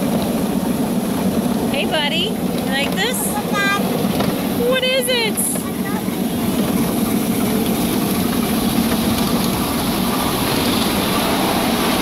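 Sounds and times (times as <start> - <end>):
riding car rolling along track: 0.0 - 12.0.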